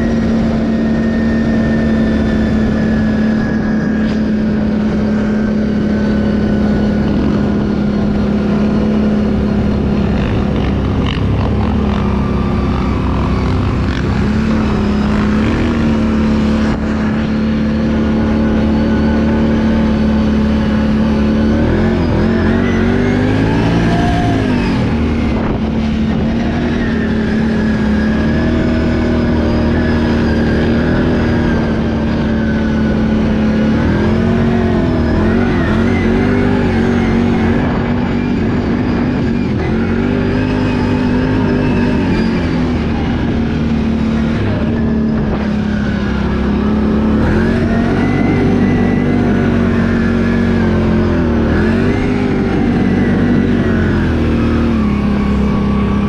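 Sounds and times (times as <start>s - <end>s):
atv engine running and revving: 0.0s - 56.0s.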